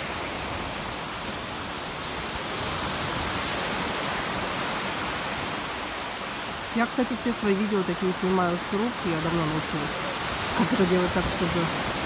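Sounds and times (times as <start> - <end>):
surf breaking on beach: 0.0 - 12.0.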